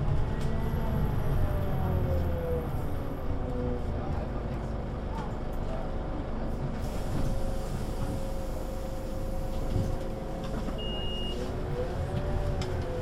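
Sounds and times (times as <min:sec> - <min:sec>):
bus diesel engine rumble: 0:00.0 - 0:13.0.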